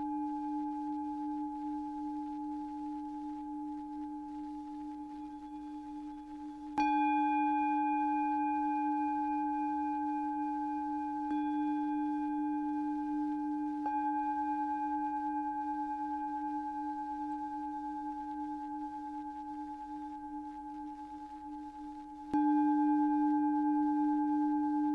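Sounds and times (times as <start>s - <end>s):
singing bowl ringing: 0.0s - 24.9s.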